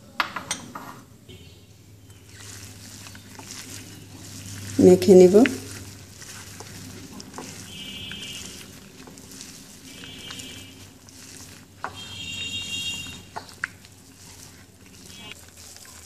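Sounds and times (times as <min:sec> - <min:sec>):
hand squishing food in bowl: 0:02.0 - 0:16.0.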